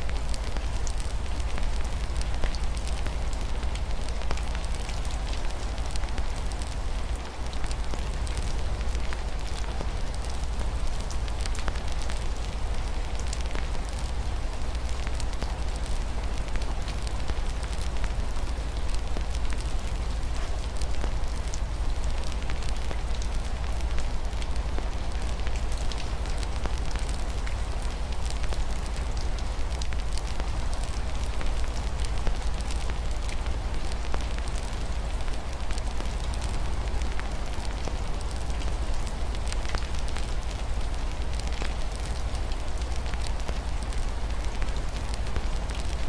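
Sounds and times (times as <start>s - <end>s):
soft rain hiss: 0.0s - 46.0s
wood fire crackling: 0.0s - 46.0s.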